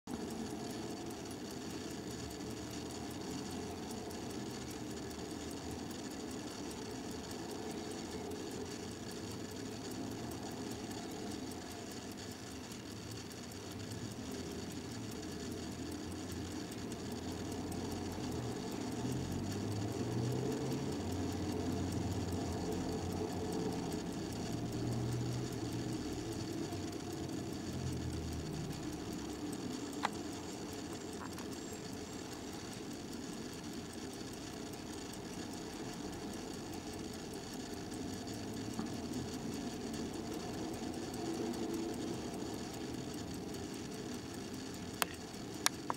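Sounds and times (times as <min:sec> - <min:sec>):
pocket watch ticking: 0:00.0 - 0:45.9
sharp click: 0:00.0 - 0:45.9
low background rumble: 0:00.1 - 0:45.9.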